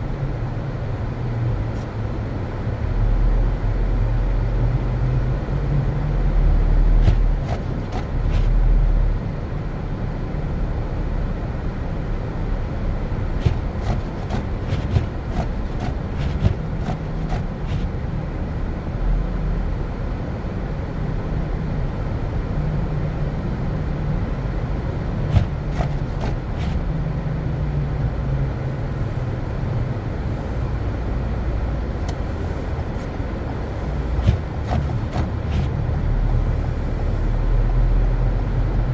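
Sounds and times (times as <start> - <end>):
car driving on snow: 0.0 - 20.9, 23.9 - 38.9.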